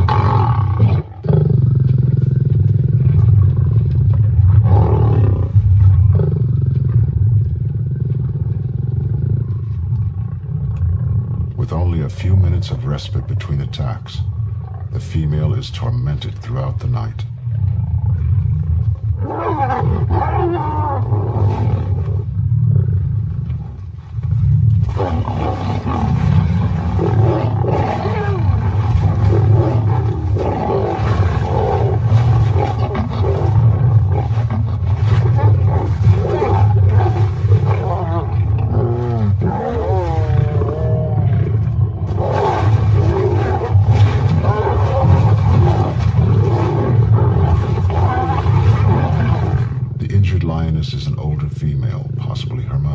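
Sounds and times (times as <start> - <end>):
lions snarling and growling: 0.0 - 50.2.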